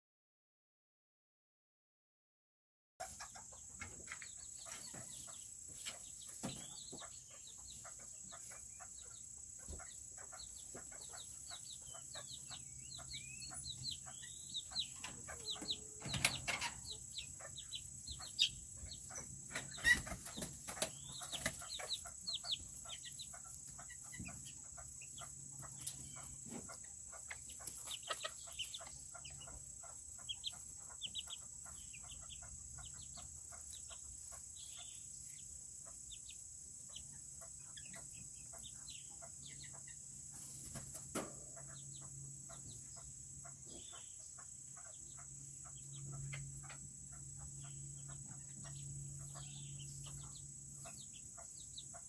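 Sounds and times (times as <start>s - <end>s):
chickens peeping and clucking: 3.0s - 52.0s.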